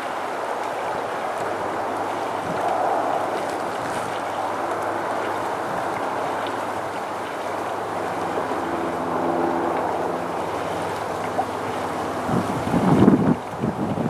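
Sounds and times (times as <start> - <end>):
rushing water: 0.0 - 14.0
wind: 0.0 - 14.0.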